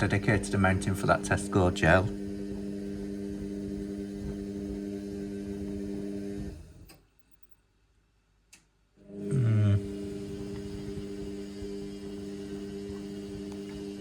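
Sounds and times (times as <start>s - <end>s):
washing machine motor hum: 0.0s - 6.9s, 9.0s - 14.0s.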